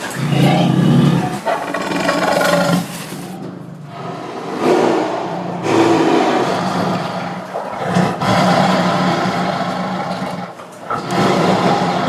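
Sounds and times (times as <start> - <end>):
tiger growling and roaring: 0.0 - 12.0.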